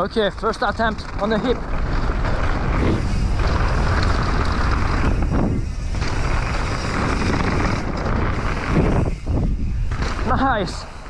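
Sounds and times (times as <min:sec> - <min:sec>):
tyres rolling on dirt trail: 0:00.0 - 0:11.0
wind rushing over camera: 0:00.0 - 0:11.0.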